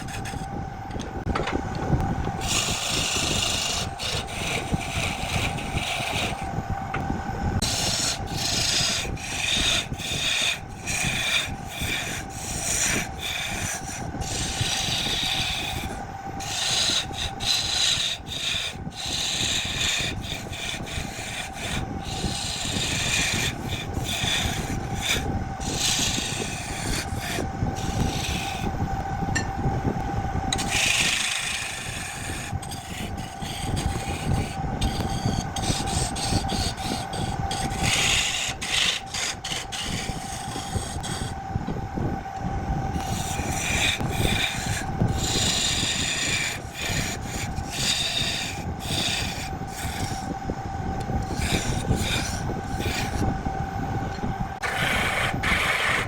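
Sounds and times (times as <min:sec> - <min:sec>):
tool scraping spinning wood: 0:00.0 - 0:56.0
wood lathe humming: 0:00.0 - 0:56.0.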